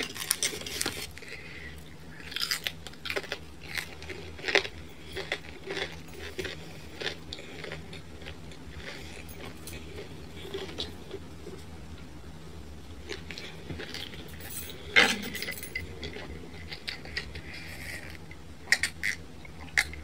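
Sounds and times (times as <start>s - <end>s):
person chewing crunchy pizza: 0.0s - 11.8s, 13.0s - 20.0s.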